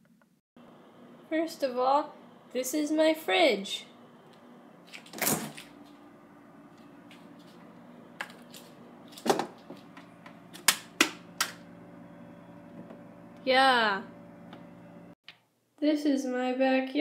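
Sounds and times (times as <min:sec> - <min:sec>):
low hum: 0:00.6 - 0:15.2.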